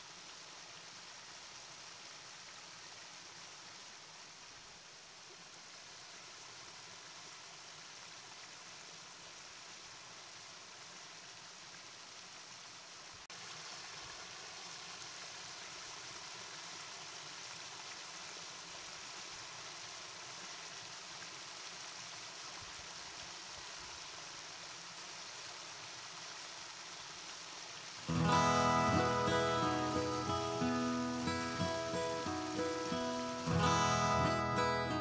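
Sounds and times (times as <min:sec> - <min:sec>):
stream rushing over stones: 0:00.0 - 0:35.0.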